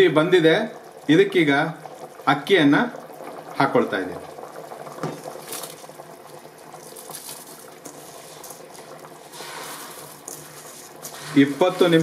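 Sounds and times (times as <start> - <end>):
gravy bubbling at a boil: 0.0 - 12.0
rice pouring into boiling liquid: 0.0 - 12.0.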